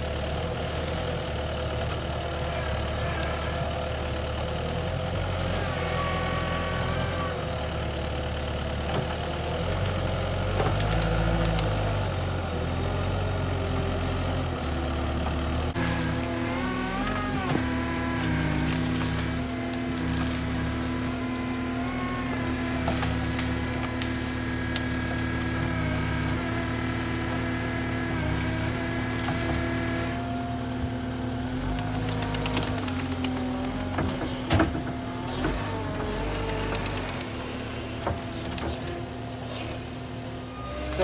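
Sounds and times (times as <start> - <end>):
branches cracking and snapping: 0.0 - 39.9
diesel engine under load: 0.0 - 41.0.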